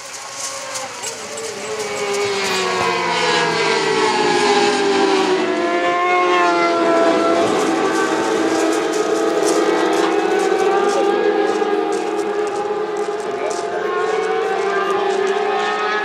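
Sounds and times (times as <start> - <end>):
racing motorcycles passing: 0.0 - 16.0.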